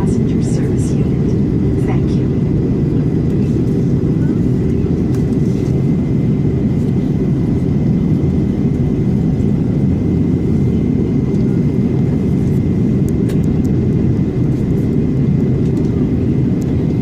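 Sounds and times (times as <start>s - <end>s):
airliner engine drone in cabin: 0.0s - 17.0s.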